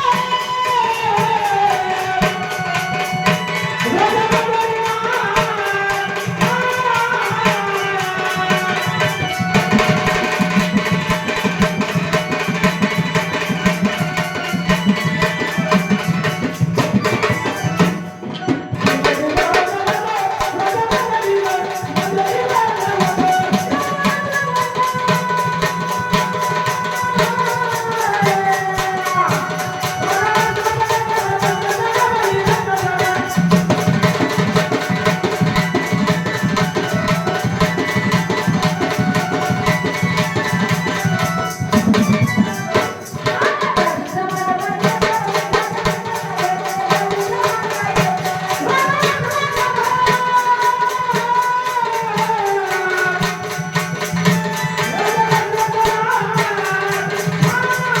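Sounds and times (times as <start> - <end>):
jingling tambourine: 0.0 - 18.1, 18.8 - 58.0
tabla: 0.0 - 58.0
woman singing devotional song: 0.0 - 58.0.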